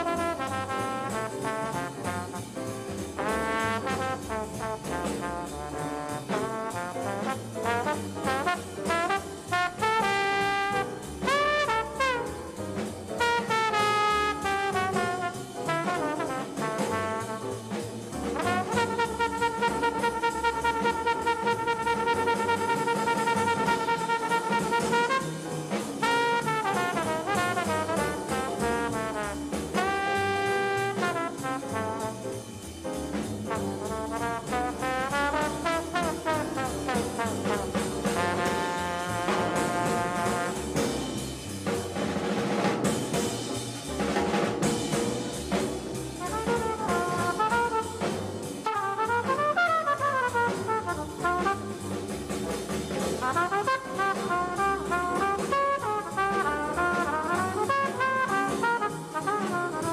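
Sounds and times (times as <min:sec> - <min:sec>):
trumpet runs: 0:00.0 - 0:02.6, 0:03.2 - 0:12.6, 0:13.2 - 0:17.8, 0:18.4 - 0:32.3, 0:33.5 - 0:40.9, 0:46.2 - 0:52.3, 0:52.9 - 0:59.9
bebop jazz band: 0:00.0 - 0:59.9.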